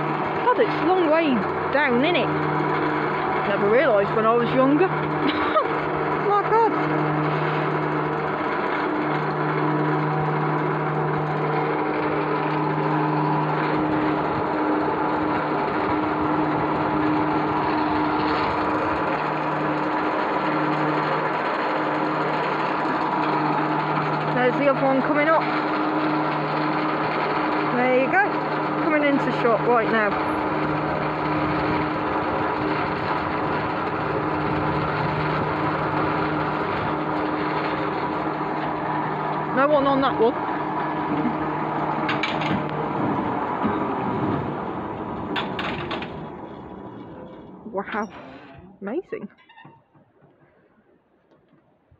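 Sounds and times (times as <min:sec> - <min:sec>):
cable haulage rumble: 0:00.0 - 0:51.0
machinery humming and rattling: 0:00.0 - 0:51.9.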